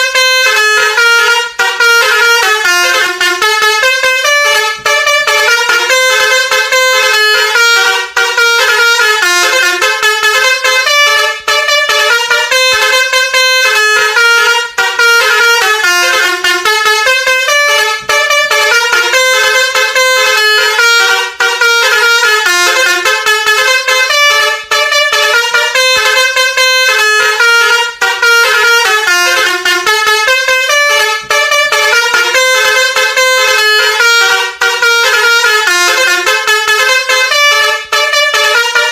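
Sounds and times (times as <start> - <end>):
musical vehicle horn melody: 0.0 - 38.9.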